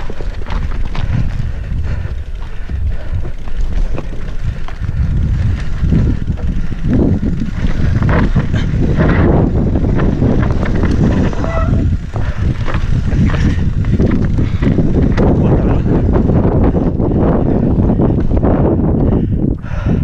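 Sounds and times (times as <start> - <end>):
tyres rumbling over dirt and stones: 0.0 - 18.4
bike rattling: 0.0 - 20.0
wind buffeting microphone: 0.0 - 20.0.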